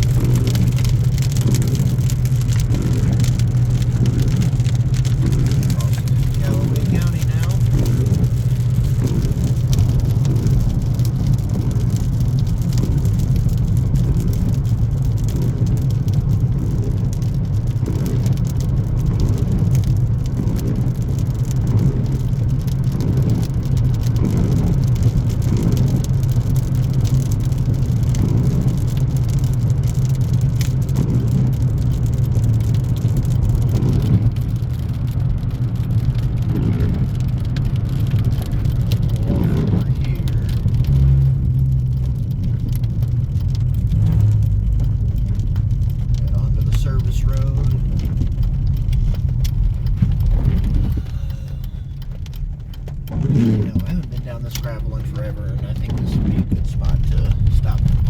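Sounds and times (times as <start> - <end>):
car driving at highway speed: 0.0 - 58.0.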